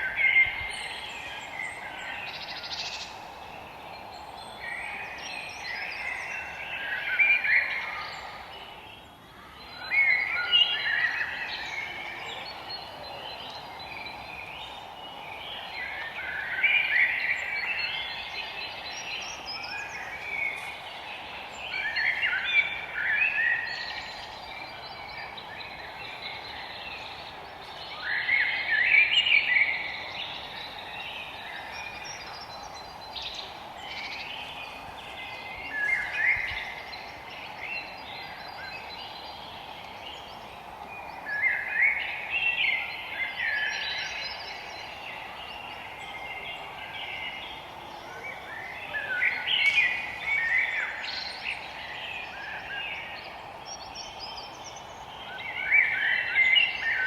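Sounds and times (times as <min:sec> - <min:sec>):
songbird chirping phrases: 0:00.0 - 0:57.0
steady background hiss: 0:00.0 - 0:57.0.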